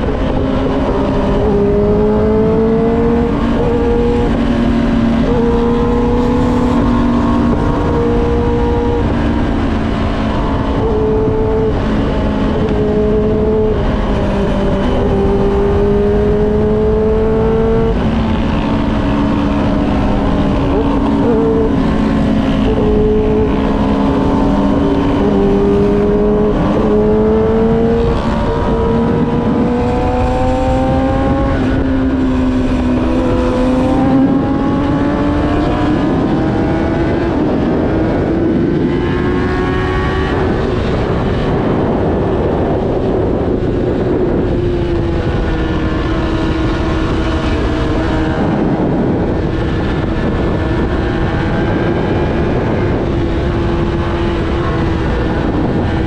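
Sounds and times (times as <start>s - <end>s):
motorcycle engine riding: 0.0s - 56.0s
wind noise: 0.0s - 56.0s.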